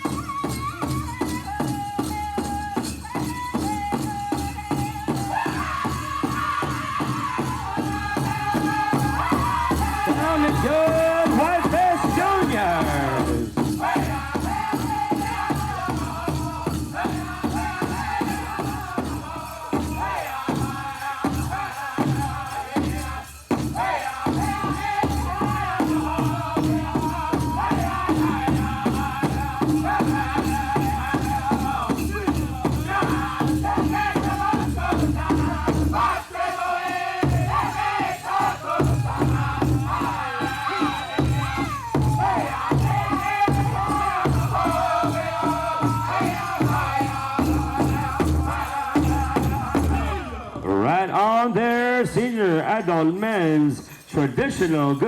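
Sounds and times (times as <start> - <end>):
men singing together: 0.0 - 55.0
large drum beat: 2.0 - 36.5, 37.2 - 50.7.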